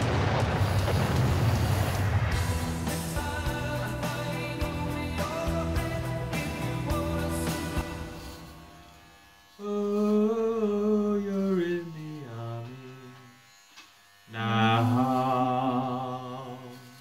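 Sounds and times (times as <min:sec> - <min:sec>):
electric hair clippers buzzing: 0:00.6 - 0:17.0.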